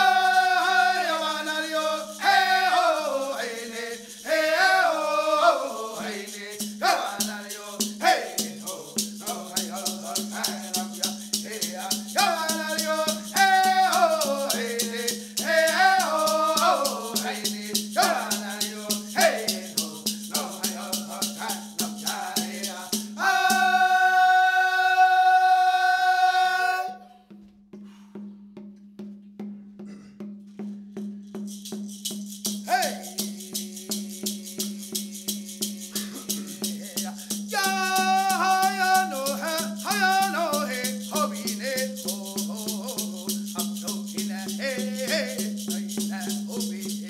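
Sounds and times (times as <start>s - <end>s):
shaken rattle beat: 0.0s - 26.6s, 30.3s - 47.0s
voices singing: 0.0s - 27.2s, 32.7s - 47.0s.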